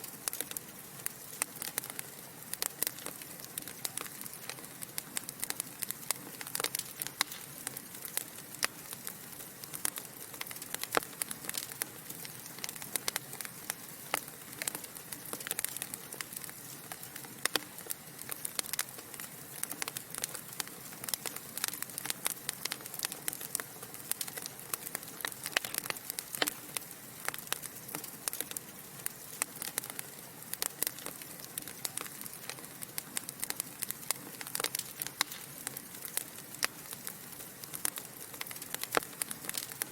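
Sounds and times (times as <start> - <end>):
burning logs popping: 0.0 - 39.9
soft steady hiss: 0.0 - 39.9
wood fire crackling: 0.0 - 39.9.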